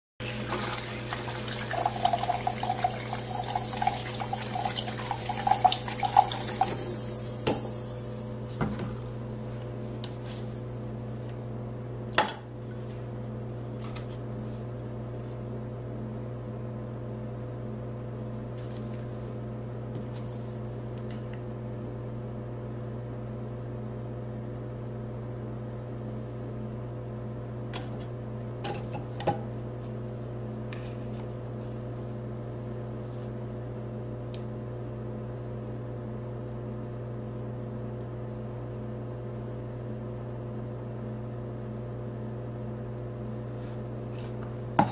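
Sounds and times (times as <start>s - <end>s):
electrical hum of appliance: 0.2s - 44.9s.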